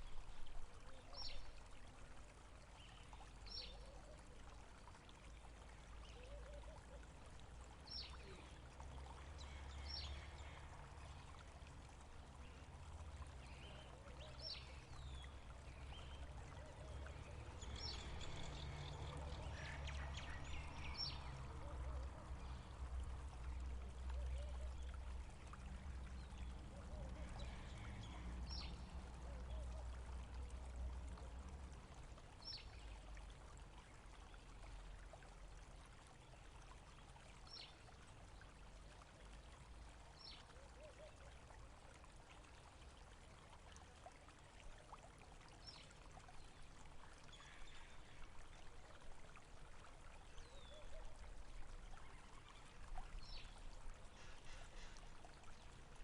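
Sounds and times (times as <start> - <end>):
faint flowing water: 0.0 - 56.0.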